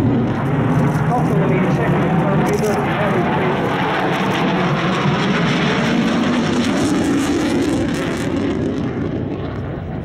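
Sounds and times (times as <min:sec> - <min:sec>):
jet engine rushing noise: 0:00.0 - 0:10.0.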